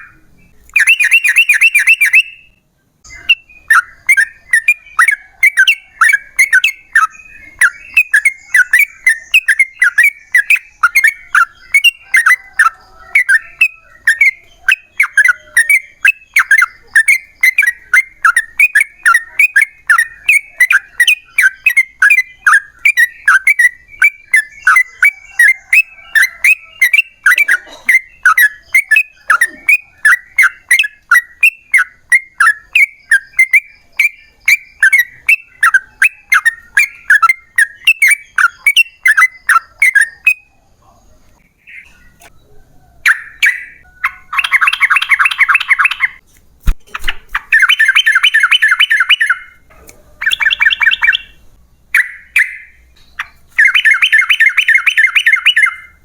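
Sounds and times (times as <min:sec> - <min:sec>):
bulbul singing bubbly whistled notes: 0:00.0 - 0:40.5, 0:42.9 - 0:46.2, 0:47.0 - 0:56.0.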